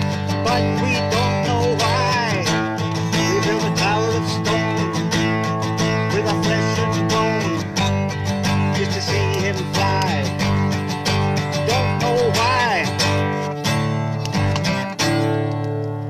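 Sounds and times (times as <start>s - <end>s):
man singing: 0.0s - 13.5s
acoustic guitar strumming: 0.0s - 16.0s.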